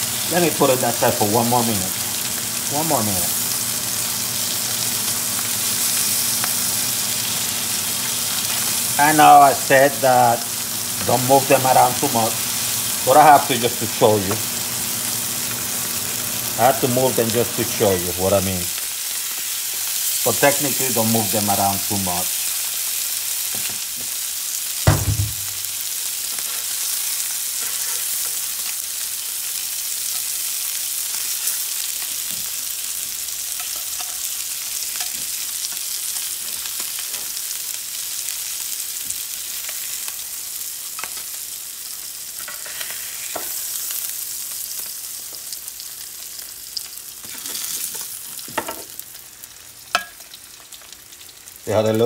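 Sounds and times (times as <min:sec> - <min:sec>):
food sizzling on a griddle: 0:00.0 - 0:52.0.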